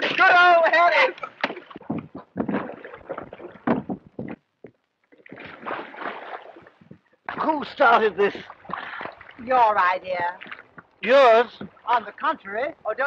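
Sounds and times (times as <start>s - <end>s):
oars splashing in water: 0.0s - 4.4s, 5.1s - 12.1s
oars clattering: 0.0s - 13.0s.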